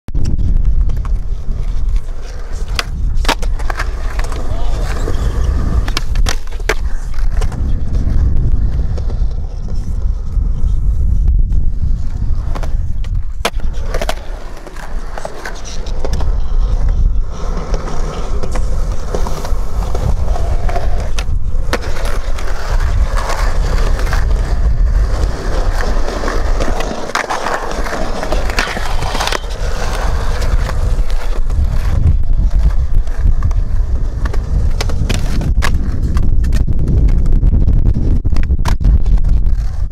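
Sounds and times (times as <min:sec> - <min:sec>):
skateboard wheels rolling on concrete: 0:00.1 - 0:39.9
skateboard tail clacks: 0:00.2 - 0:10.5, 0:12.0 - 0:37.4.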